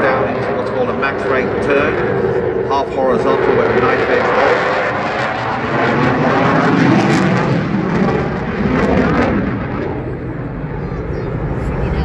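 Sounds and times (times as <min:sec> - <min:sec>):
fighter jet in afterburner: 0:00.0 - 0:12.0.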